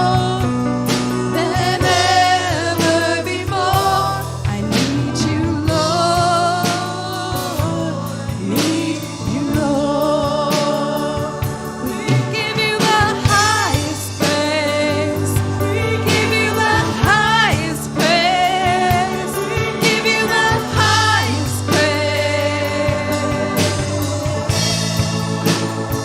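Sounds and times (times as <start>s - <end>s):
bass: 0.0s - 26.0s
keyboard: 0.0s - 26.0s
steady drum beat: 0.0s - 26.0s.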